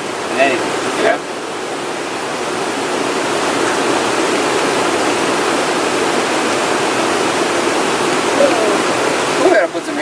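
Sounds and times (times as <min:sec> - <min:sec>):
river rushing over rapids: 0:00.0 - 0:10.0.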